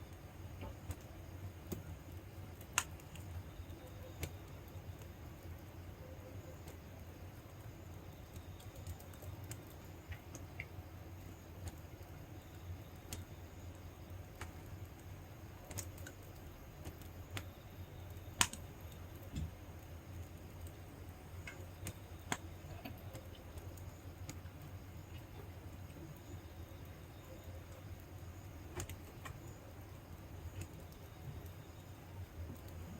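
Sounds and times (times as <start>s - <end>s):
wood fire crackling and popping: 0.0s - 5.8s, 6.5s - 32.9s.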